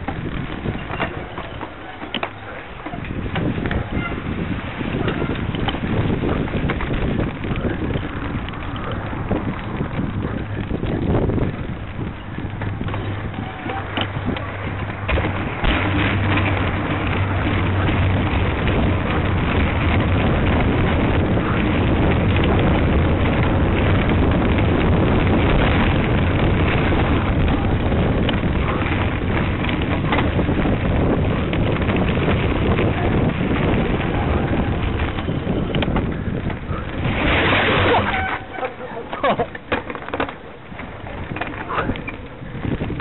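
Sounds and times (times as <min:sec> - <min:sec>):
bike rumbling over gravel: 0:00.0 - 0:43.0
wind rushing on microphone: 0:00.0 - 0:43.0.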